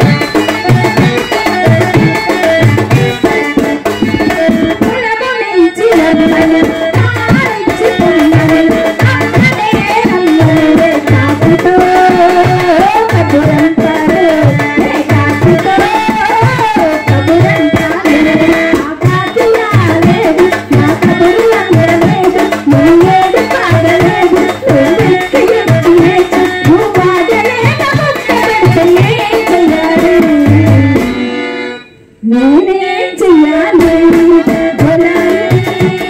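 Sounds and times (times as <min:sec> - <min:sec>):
hand drum beat: 0:00.0 - 0:05.0, 0:05.8 - 0:31.1, 0:33.8 - 0:36.0
woman singing through microphone: 0:00.0 - 0:31.6, 0:32.2 - 0:36.0.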